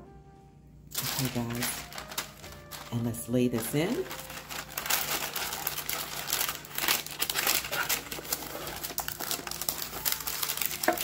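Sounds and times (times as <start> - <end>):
parchment paper crinkling: 0.9 - 11.0.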